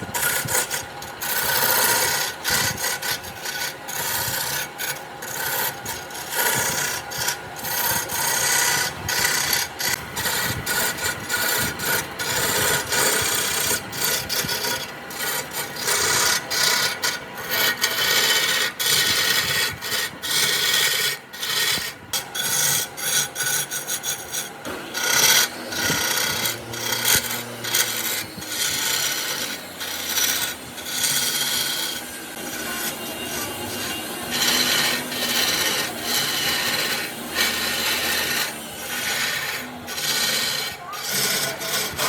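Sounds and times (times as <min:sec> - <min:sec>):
tool scraping wood: 0:00.0 - 0:42.0.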